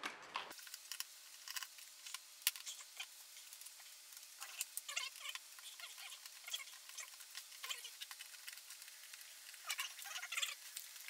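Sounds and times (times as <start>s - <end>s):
small clicks and rustles of parts: 0.0s - 11.0s.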